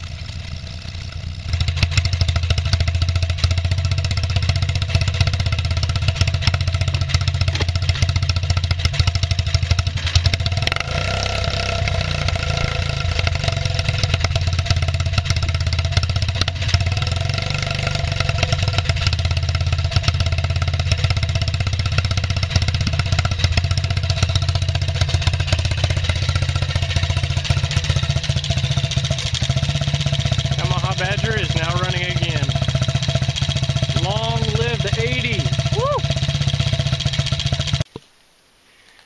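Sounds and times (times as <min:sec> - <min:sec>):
atv engine idling: 0:00.0 - 0:38.0.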